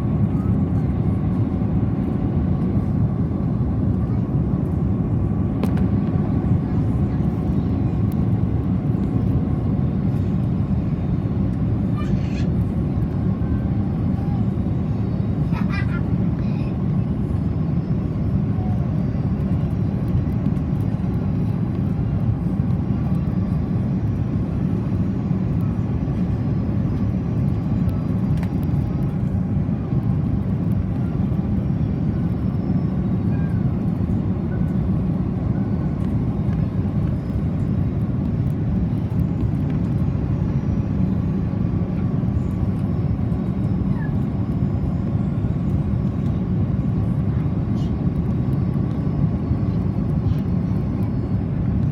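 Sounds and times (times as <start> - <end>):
airliner engines rumbling: 0.0 - 51.9.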